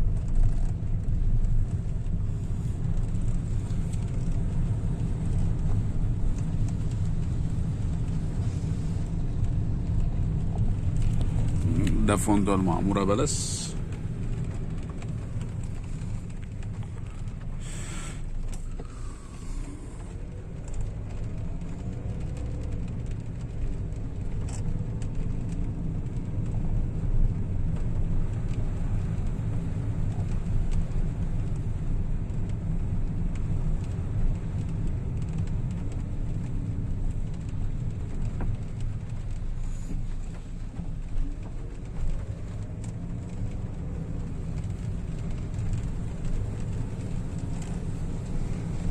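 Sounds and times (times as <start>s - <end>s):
car engine: 0.0s - 48.9s
road rumble: 0.0s - 48.9s.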